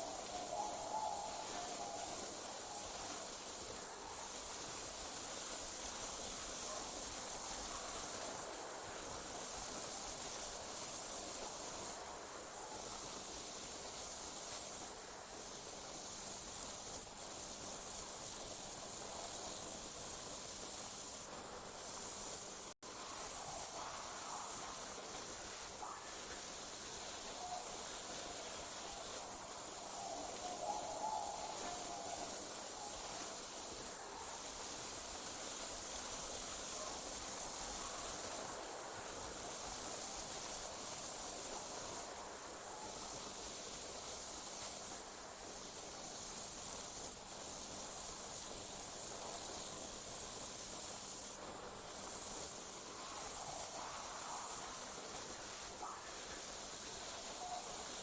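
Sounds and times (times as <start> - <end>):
night insects trilling: 0.0 - 58.0.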